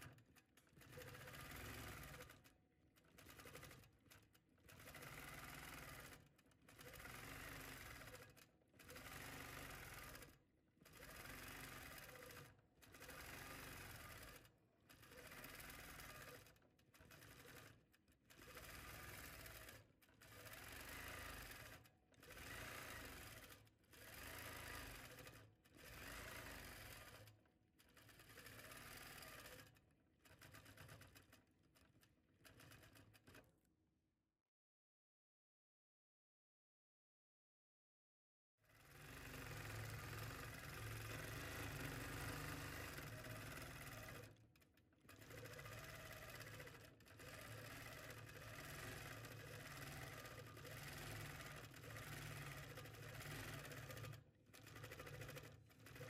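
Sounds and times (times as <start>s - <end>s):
quilting machine stitching: 0.0s - 33.7s, 38.6s - 56.0s.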